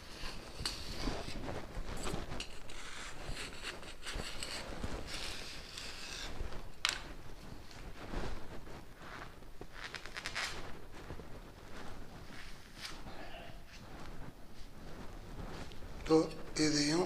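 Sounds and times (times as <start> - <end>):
cotton rustling and scraping: 0.0 - 17.0.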